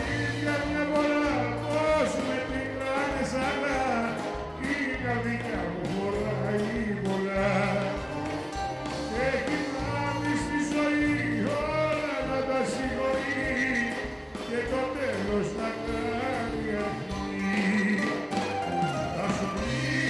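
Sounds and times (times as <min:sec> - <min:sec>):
bouzouki: 0:00.0 - 0:20.0
drums: 0:00.0 - 0:20.0
low bass notes: 0:00.0 - 0:20.0
man singing into a microphone: 0:00.0 - 0:20.0.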